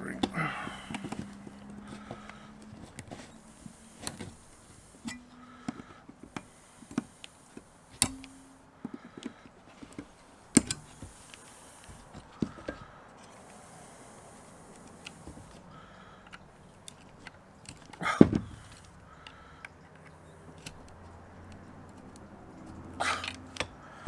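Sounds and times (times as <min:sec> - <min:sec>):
clicks and knocks of tools: 0:00.2 - 0:24.0.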